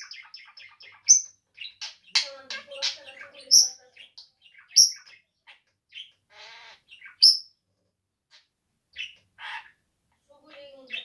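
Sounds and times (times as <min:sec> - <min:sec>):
budgerigar chirping: 0:00.0 - 0:07.5, 0:08.3 - 0:09.8.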